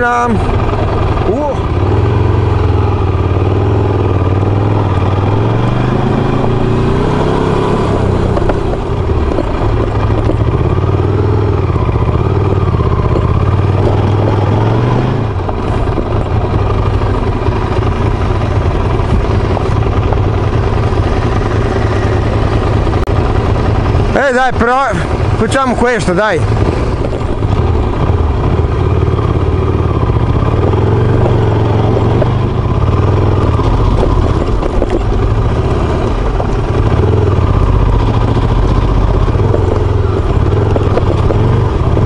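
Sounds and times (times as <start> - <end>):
motorcycle engine under load: 0.0 - 42.0
wind and road noise: 0.0 - 42.0.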